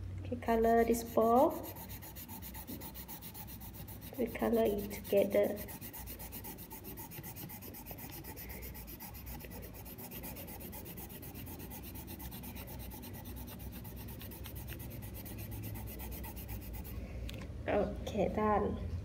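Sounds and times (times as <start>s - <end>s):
colored pencil scratching on paper: 0.7s - 17.0s.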